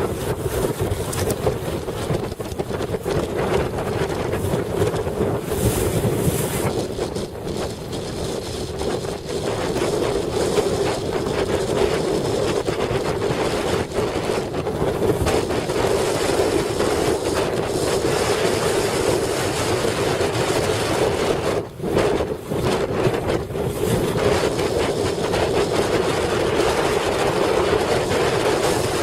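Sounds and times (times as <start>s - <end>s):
rushing water: 0.0s - 29.0s
wind buffeting microphone: 0.0s - 29.0s.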